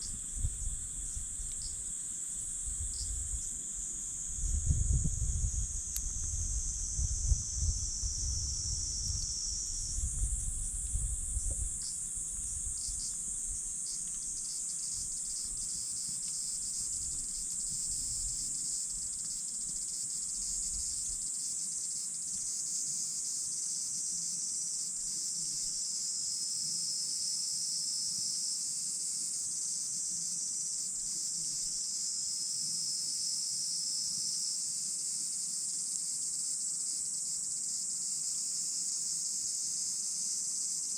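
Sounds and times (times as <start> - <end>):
crickets chirring: 0.0 - 40.9.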